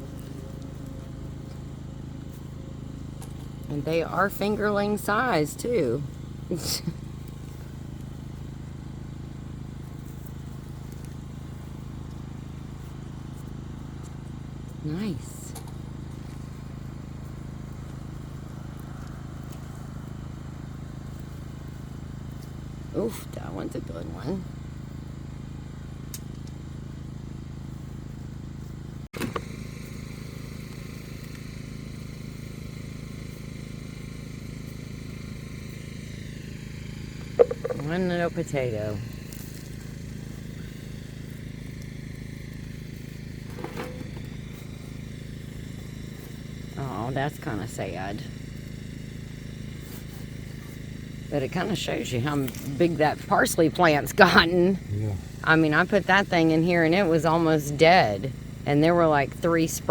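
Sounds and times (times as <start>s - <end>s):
engine idling: 0.0s - 59.9s
low motor-like hum: 0.0s - 59.9s.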